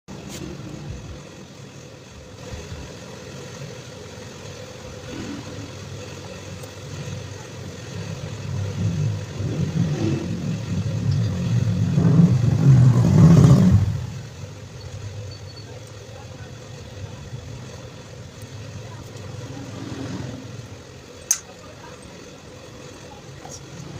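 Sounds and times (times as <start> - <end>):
motorcycle engine idling and revving: 0.1 - 23.9.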